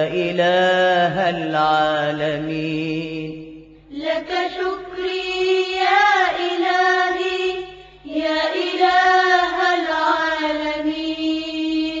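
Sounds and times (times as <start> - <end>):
voices singing long held notes: 2.0 - 12.0.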